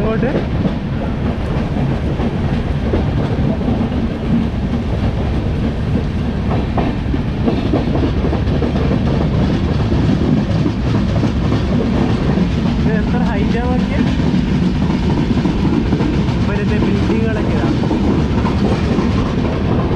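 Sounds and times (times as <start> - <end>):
train running rumble: 0.0 - 19.9
wheels clicking over rails: 0.0 - 19.9.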